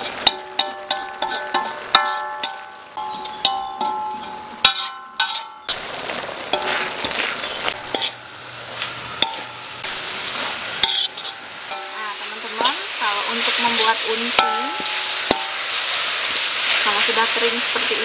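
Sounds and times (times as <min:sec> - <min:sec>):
metal spoon scraping a pan: 0:00.0 - 0:05.8, 0:06.5 - 0:09.8, 0:10.4 - 0:17.9
filling sizzling in a wok: 0:00.0 - 0:18.0.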